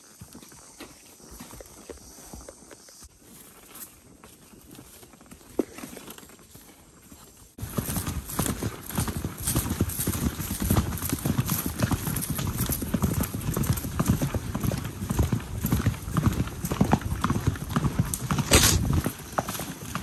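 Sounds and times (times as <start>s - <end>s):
horse hoofbeats: 0.0s - 20.0s.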